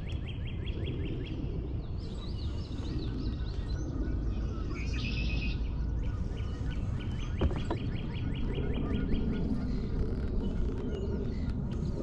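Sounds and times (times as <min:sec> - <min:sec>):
birds chirping: 0:00.0 - 0:12.0
birdsong: 0:00.0 - 0:12.0
low rumbling background: 0:00.0 - 0:12.0.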